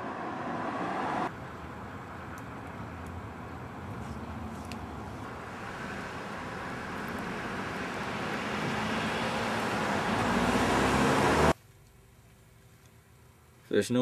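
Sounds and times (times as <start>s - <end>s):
vehicle rumble: 0.0s - 13.6s.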